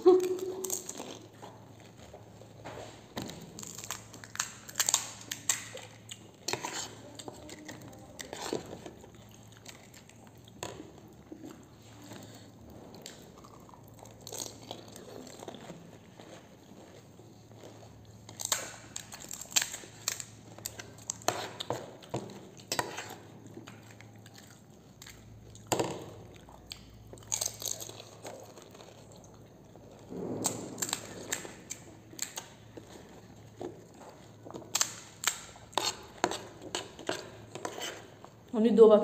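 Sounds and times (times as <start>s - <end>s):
crisp shells crunching when chewed: 0.1s - 2.6s, 3.2s - 38.4s.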